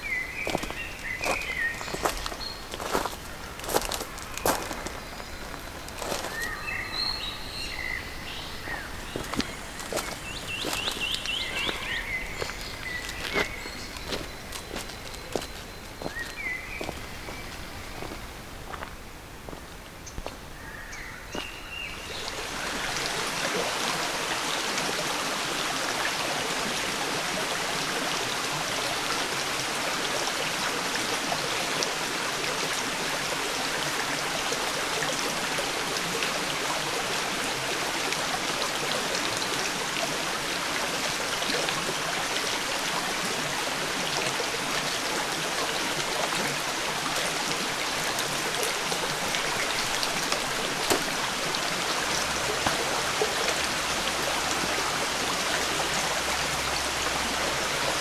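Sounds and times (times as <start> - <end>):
water rushing: 0.0 - 18.8, 21.8 - 58.0.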